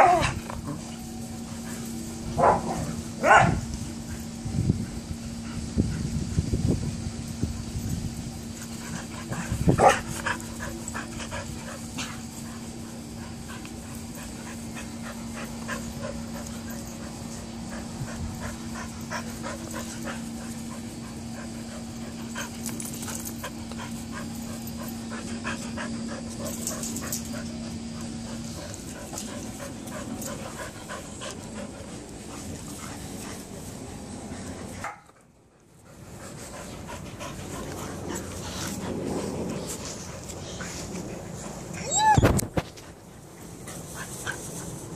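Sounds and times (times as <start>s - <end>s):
dogs playing rough: 0.0s - 44.9s
steady low hum: 0.0s - 44.9s
dogs panting: 8.4s - 44.9s.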